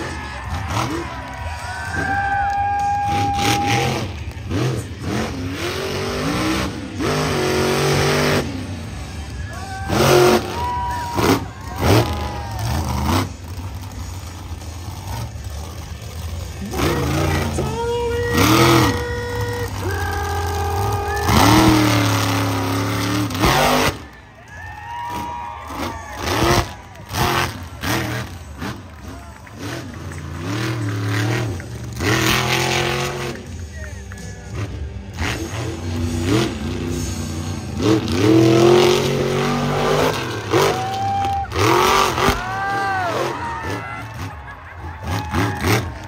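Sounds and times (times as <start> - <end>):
monster truck engine revving: 0.0 - 46.0.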